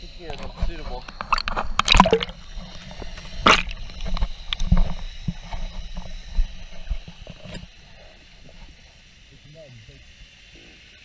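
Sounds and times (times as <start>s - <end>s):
muffled underwater rumble: 0.0s - 11.0s.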